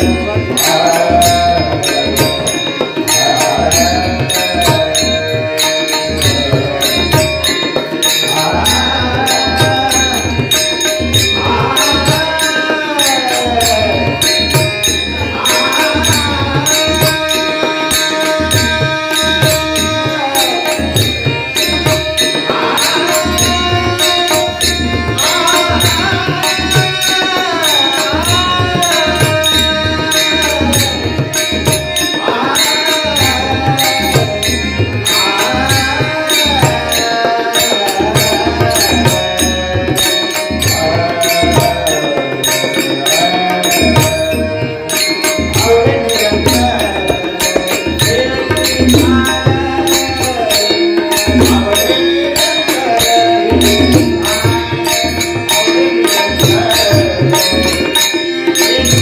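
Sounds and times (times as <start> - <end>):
man singing devotional melody: 0.0 - 59.0
tabla playing fast rhythm: 0.0 - 59.0.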